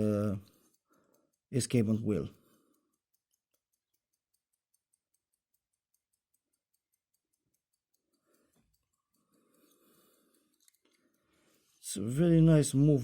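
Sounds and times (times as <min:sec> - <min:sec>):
pocket watch ticking: 0:00.0 - 0:13.0.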